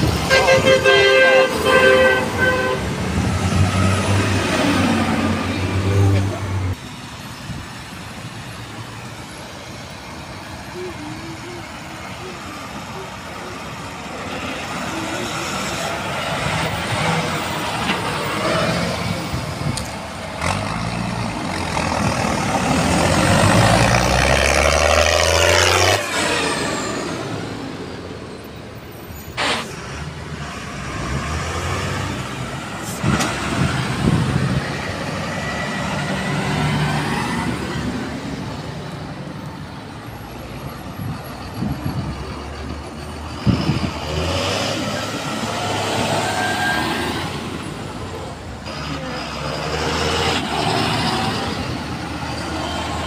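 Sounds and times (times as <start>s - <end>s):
diesel tractors driving past: 0.0s - 53.0s.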